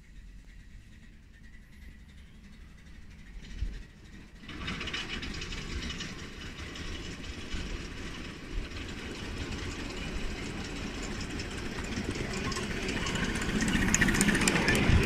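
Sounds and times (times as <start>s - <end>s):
running gear rumbling on rails: 0.0s - 15.0s.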